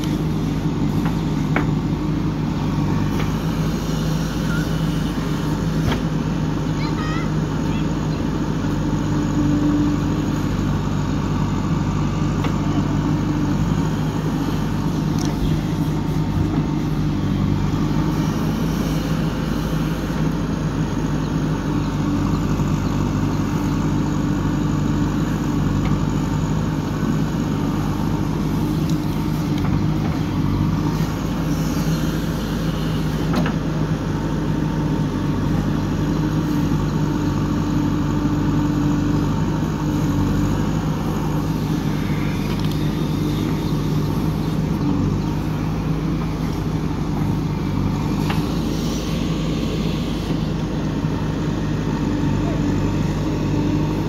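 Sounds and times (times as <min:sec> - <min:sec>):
backhoe digging soil: 0:00.0 - 0:06.7, 0:08.7 - 0:54.0
diesel engine running: 0:00.0 - 0:54.0.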